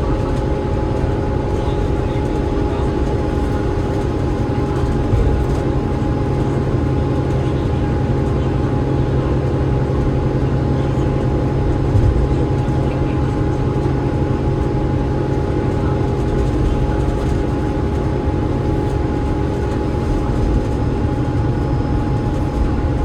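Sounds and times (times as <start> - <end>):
bus diesel engine droning: 0.0 - 23.0.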